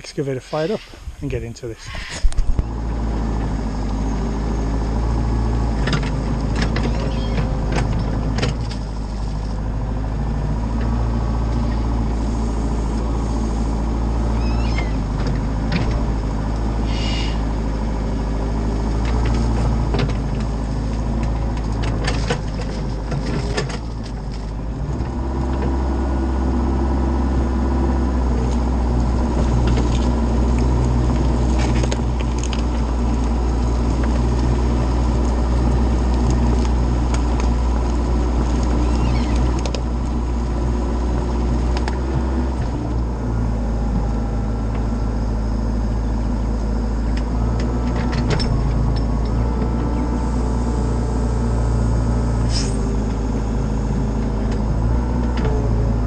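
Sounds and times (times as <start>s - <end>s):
excavator diesel engine running: 0.0s - 56.0s
hydraulics working: 0.0s - 56.0s.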